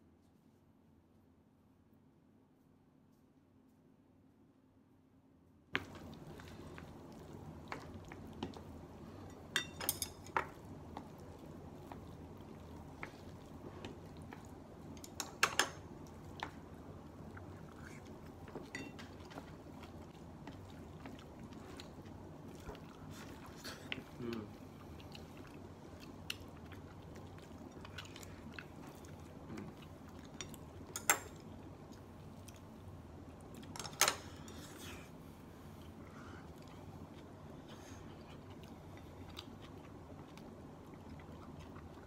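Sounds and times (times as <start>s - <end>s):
low room hum: 0.0s - 42.0s.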